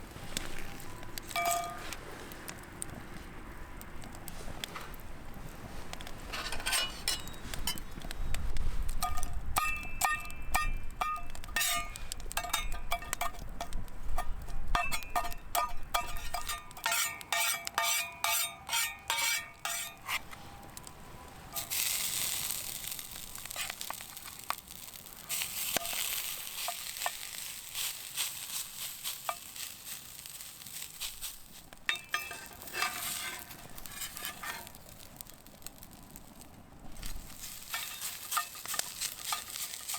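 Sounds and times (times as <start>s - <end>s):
steak sizzling: 0.0s - 3.1s, 5.1s - 39.9s
metal utensils clinking on griddle: 0.3s - 2.3s, 6.2s - 8.2s, 8.9s - 20.5s, 21.5s - 34.9s, 37.0s - 39.9s.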